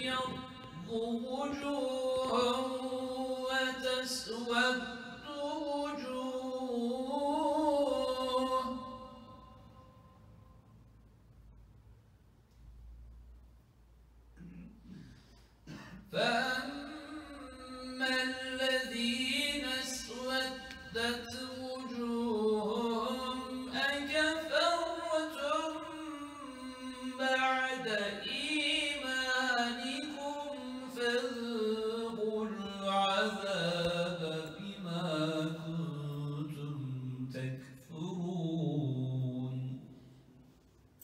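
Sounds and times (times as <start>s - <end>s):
man chanting a recitation: 0.0s - 9.4s, 16.0s - 40.0s.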